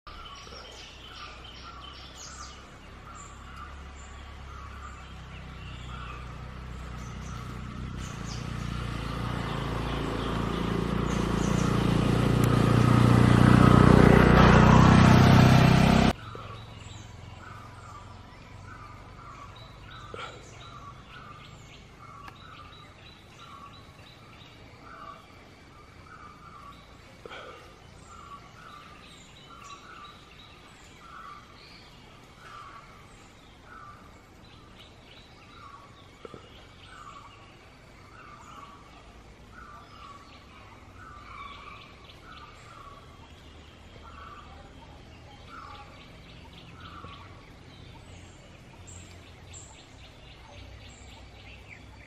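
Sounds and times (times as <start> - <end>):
bird calling: 0.1 - 52.0.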